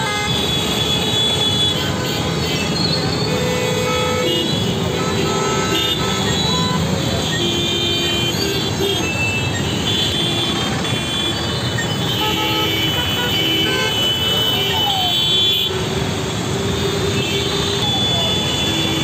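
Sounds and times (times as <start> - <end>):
din of traffic engines: 0.0 - 19.0
vehicle horns honking: 0.0 - 19.0.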